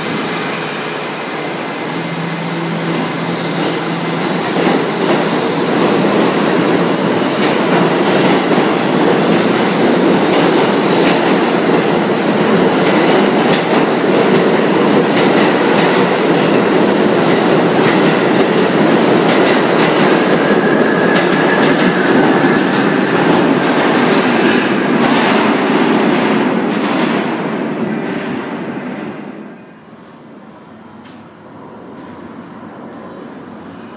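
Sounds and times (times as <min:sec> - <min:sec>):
subway train wheels rumbling: 0:00.0 - 0:33.9.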